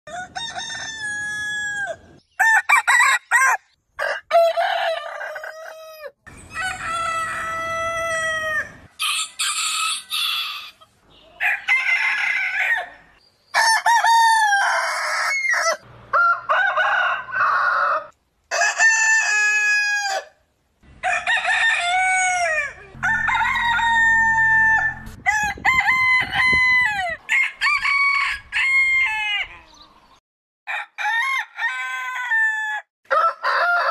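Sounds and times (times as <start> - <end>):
roosters crowing: 0.1 - 29.9, 30.7 - 33.9.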